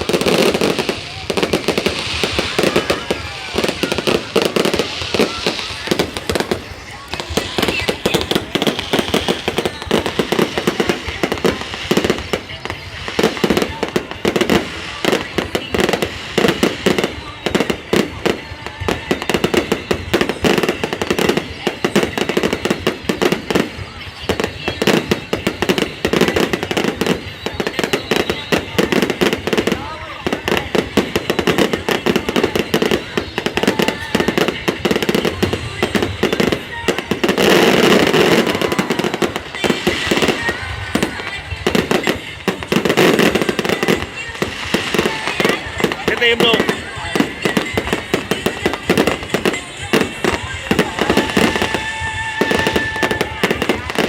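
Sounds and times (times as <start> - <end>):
fireworks bangs and crackles: 0.0 - 54.0
voices: 0.0 - 54.0.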